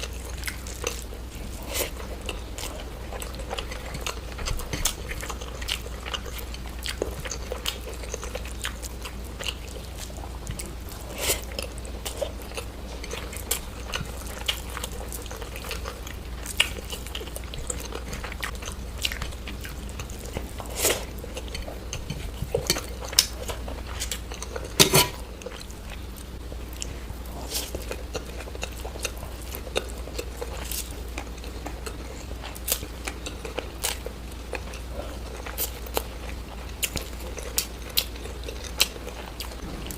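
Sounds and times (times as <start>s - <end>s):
chewing and biting crunches: 0.0s - 39.9s
steady low hum: 0.0s - 39.9s.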